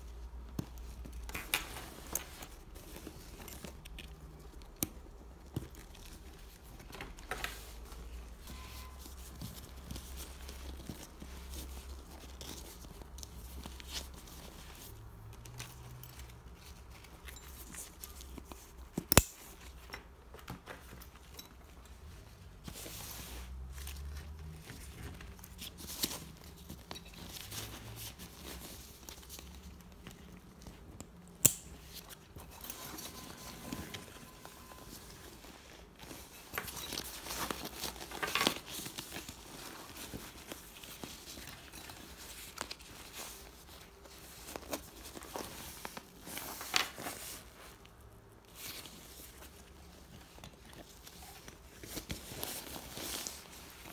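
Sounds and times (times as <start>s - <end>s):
fabric bag rustling: 0.0s - 53.9s.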